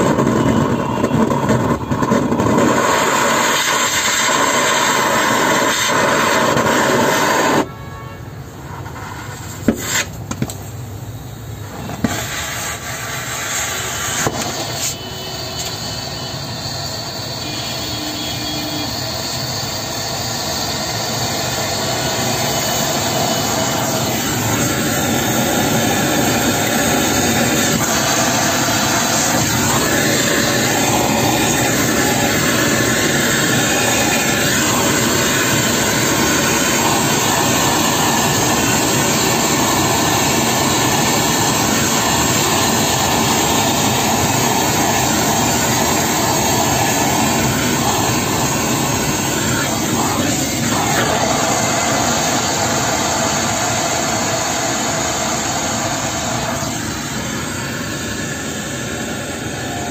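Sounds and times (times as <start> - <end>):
gas torch rushing: 0.0 - 7.8, 8.5 - 59.9.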